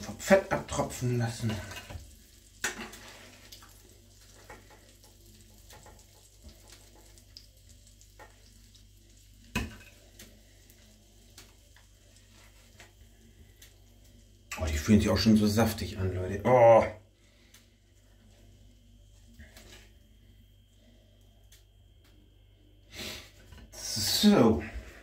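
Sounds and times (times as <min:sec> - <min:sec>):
hot fat crackling in a frying pan: 0:00.0 - 0:25.0.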